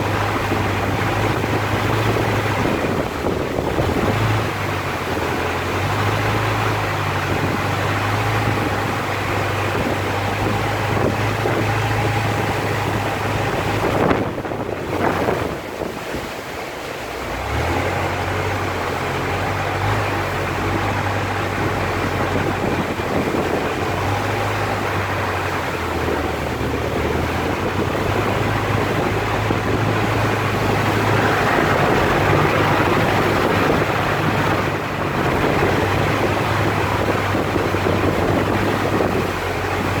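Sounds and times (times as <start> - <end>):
boat engine humming: 0.0 - 40.0
rushing water: 0.0 - 40.0
wind: 0.0 - 40.0.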